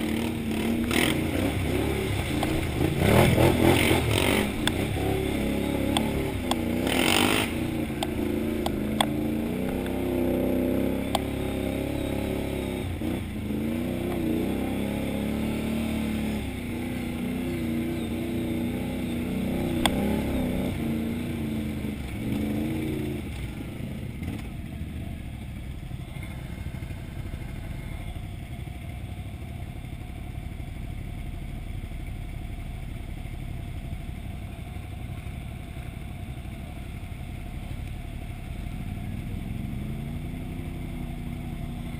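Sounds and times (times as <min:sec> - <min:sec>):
atv engine revving: 0:00.0 - 0:28.6, 0:34.2 - 0:41.9.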